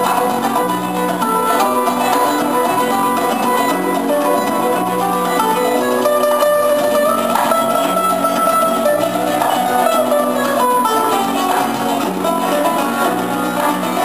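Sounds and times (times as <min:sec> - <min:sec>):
acoustic guitars playing: 0:00.0 - 0:14.0
bass guitar: 0:00.0 - 0:14.0
wavering melody line: 0:00.0 - 0:14.0.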